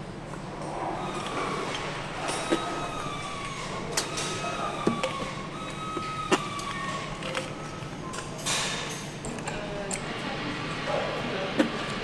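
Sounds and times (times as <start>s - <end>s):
machinery hum with whine: 0.0s - 12.0s.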